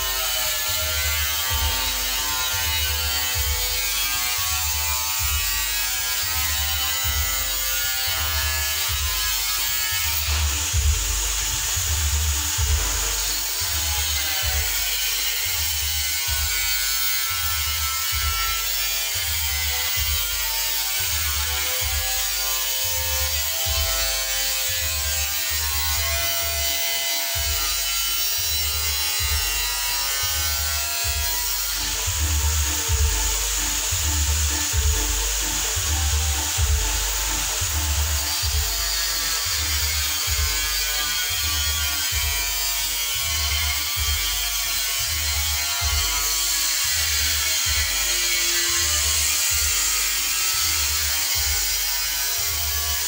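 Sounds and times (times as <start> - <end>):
music with bass beat and synth: 0.0 - 26.6, 27.4 - 53.0.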